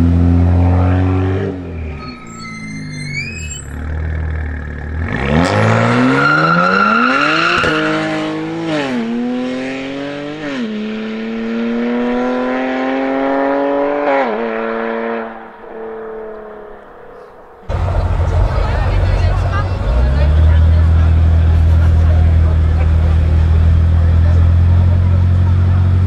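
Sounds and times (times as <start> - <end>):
car accelerating through gears: 0.0 - 2.1, 3.8 - 26.0.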